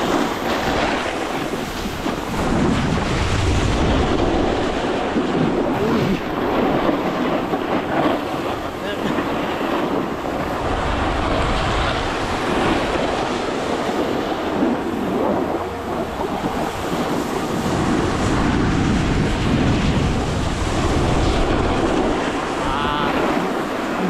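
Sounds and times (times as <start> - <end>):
snowboard sliding over snow: 0.0 - 24.0
wind buffeting microphone: 0.0 - 24.0.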